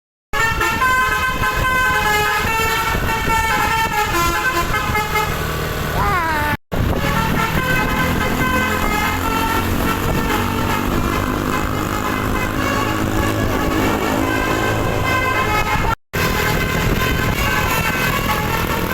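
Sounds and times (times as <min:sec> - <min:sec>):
multi-tone musical air horn: 0:00.4 - 0:05.4, 0:06.2 - 0:18.9
bus engine running: 0:00.4 - 0:18.9.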